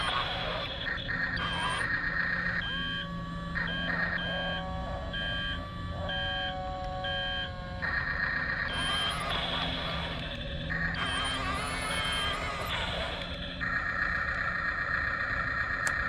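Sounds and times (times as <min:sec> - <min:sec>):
small electric motors whining: 0:00.0 - 0:16.0
toy reversing beeps: 0:00.0 - 0:16.0.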